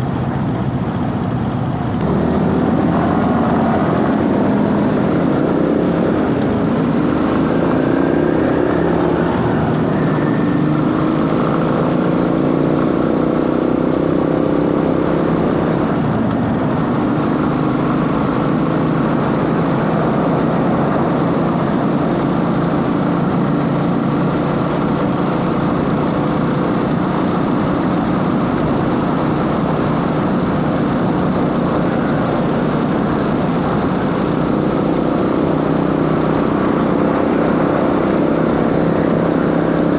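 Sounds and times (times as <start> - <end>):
drive chain and intake noise: 0.0 - 39.9
motorcycle engine running: 0.0 - 39.9.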